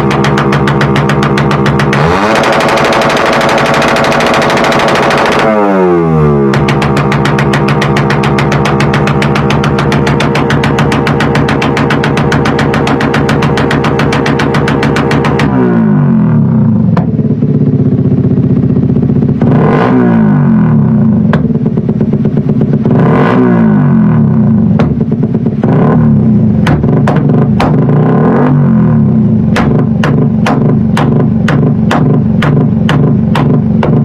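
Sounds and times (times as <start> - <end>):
exhaust pops and crackles: 0.0 - 16.0, 16.6 - 19.6, 20.7 - 23.4, 24.2 - 34.0
motorcycle engine revving: 0.0 - 34.0.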